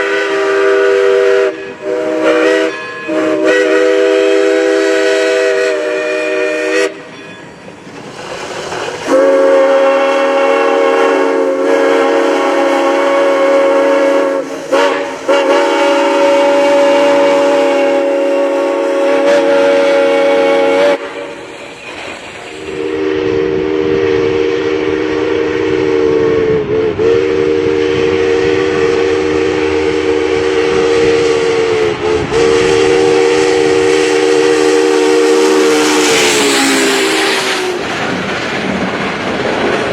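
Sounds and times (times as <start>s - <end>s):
train horn blasts: 0.0s - 7.1s, 9.1s - 21.3s, 22.8s - 37.8s.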